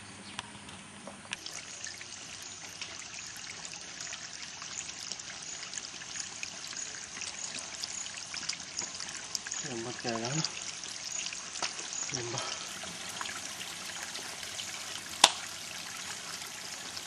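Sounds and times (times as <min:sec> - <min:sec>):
trickling water-like hiss: 0:01.3 - 0:17.0.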